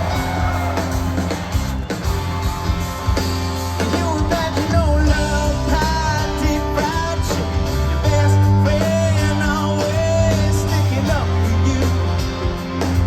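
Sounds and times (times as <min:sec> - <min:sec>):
live rock band playing: 0:00.0 - 0:13.0
sustained bass notes: 0:00.0 - 0:13.0.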